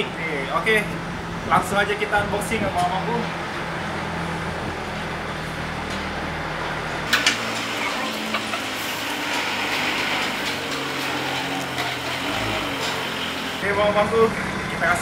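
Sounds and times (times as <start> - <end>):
street traffic: 0.0 - 15.0
vehicle engine running: 0.0 - 15.0.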